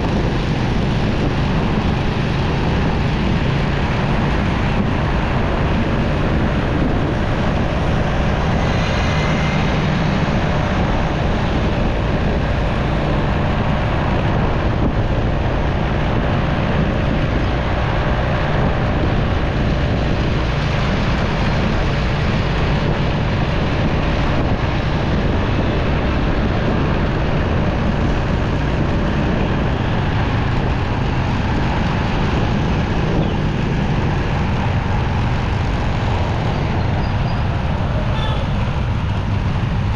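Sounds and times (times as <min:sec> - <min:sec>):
motorcycle running: 0:00.0 - 0:39.9
road traffic: 0:00.0 - 0:39.9
wind rushing over microphone: 0:00.0 - 0:39.9.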